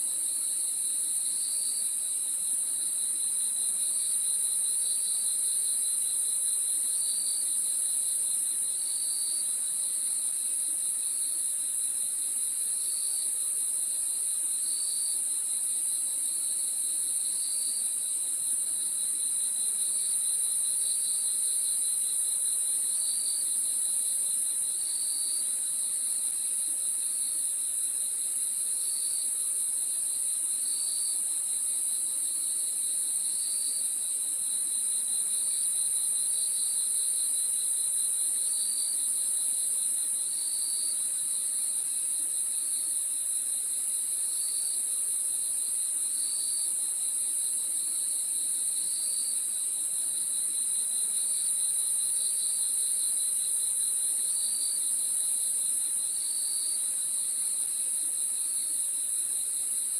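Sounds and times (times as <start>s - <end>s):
high-pitched cricket trill: 0.0s - 59.9s
low pulsing insect trill: 0.1s - 59.9s.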